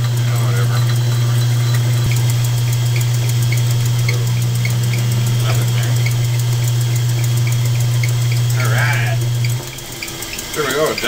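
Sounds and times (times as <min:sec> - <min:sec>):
light regular ticking: 0:00.0 - 0:11.0
metal lathe motor humming: 0:00.0 - 0:11.0.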